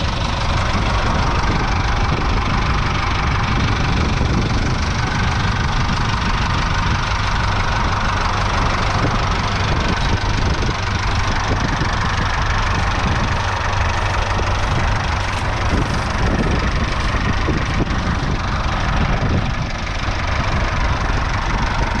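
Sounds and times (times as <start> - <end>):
tractor diesel engines running: 0.0 - 22.0.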